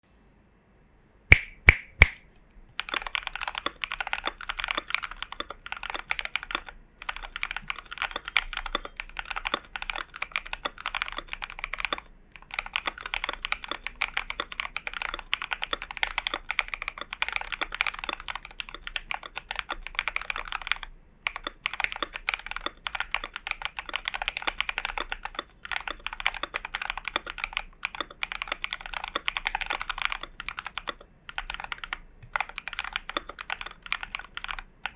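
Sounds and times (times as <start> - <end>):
mechanical keyboard typing: 1.3 - 34.9.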